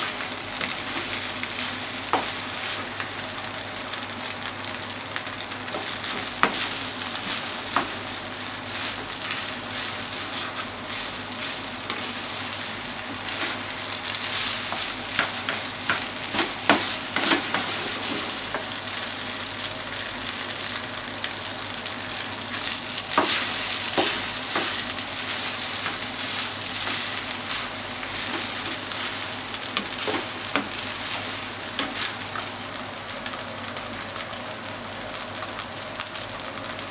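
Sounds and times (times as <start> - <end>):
rice sizzling in a frying pan: 0.0 - 36.9.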